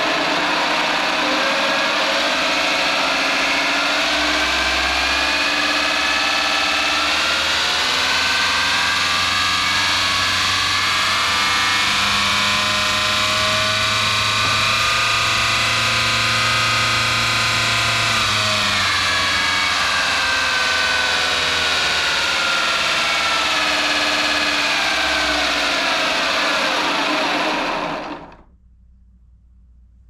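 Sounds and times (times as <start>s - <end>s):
electric ducted fan whining: 0.0s - 29.2s.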